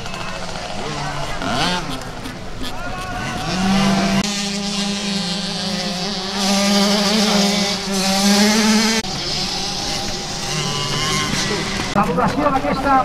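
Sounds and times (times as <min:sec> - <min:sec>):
motorcycle engines revving high: 0:00.0 - 0:13.0.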